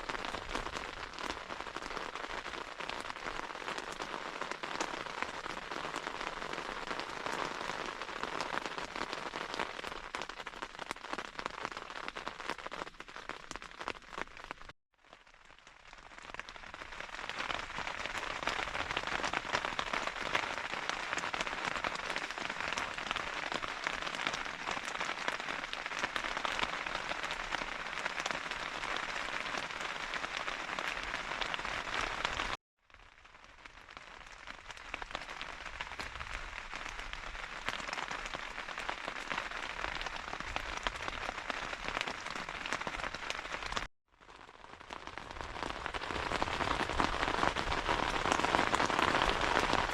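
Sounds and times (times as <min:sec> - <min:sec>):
heavy rain: 0:00.0 - 0:14.6, 0:16.1 - 0:32.6, 0:34.7 - 0:43.9, 0:44.8 - 0:49.9.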